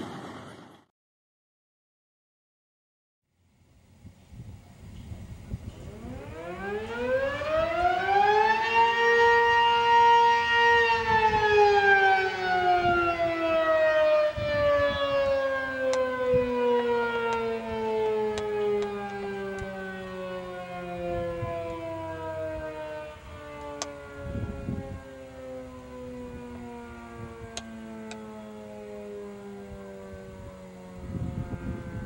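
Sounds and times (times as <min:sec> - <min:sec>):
warning siren wailing: 0:05.6 - 0:32.0.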